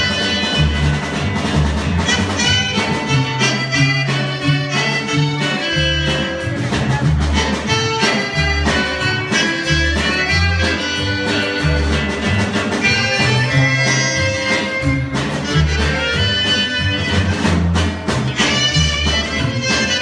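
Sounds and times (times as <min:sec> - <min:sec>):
band playing regional music: 0:00.0 - 0:20.0.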